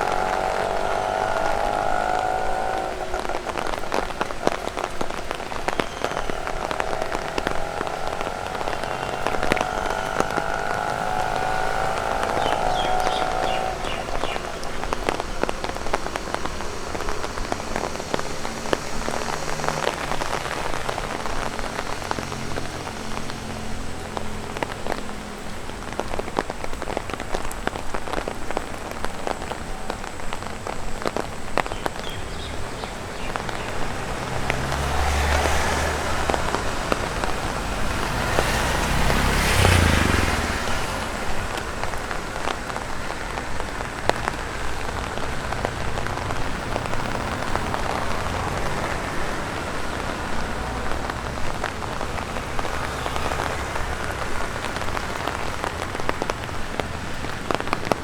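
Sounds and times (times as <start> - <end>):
light rain: 0.0 - 58.0
raindrops tapping on umbrella: 0.0 - 58.0
vehicle passing on wet road: 0.0 - 58.0.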